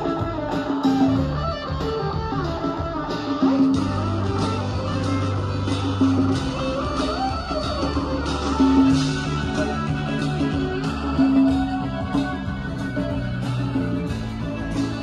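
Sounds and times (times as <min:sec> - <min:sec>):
bass guitar: 0:00.0 - 0:15.0
electric guitar: 0:00.0 - 0:15.0
steady drum beat: 0:00.0 - 0:15.0.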